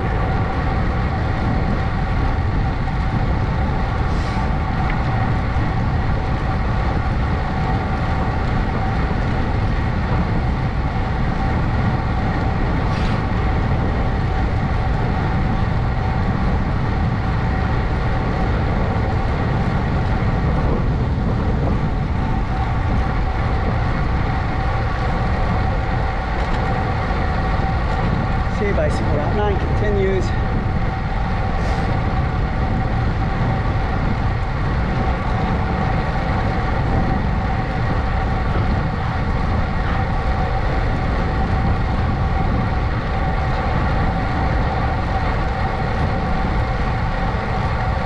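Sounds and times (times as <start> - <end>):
bicycle tyres on road: 0.0 - 48.0
faint steady whine: 0.0 - 48.0
wind on microphone: 0.0 - 48.0.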